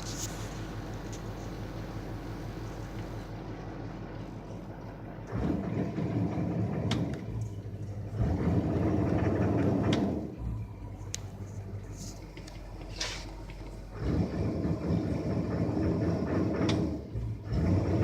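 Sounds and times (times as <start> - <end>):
turbocharged engine idling and revving: 0.0 - 18.0.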